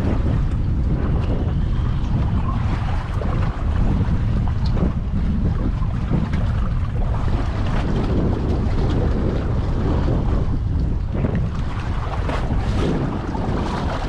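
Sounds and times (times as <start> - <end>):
low rumble of boat: 0.0 - 14.0
water: 0.0 - 14.0
wind buffeting microphone: 0.0 - 14.0.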